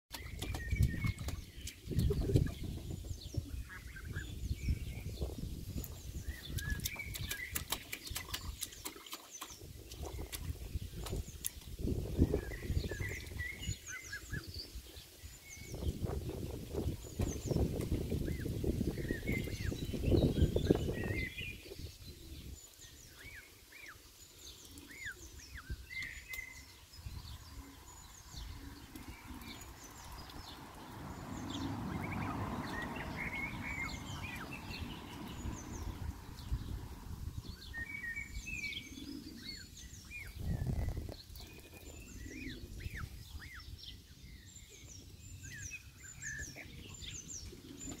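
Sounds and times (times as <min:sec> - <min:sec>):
songbirds chirping: 0:00.1 - 0:48.0.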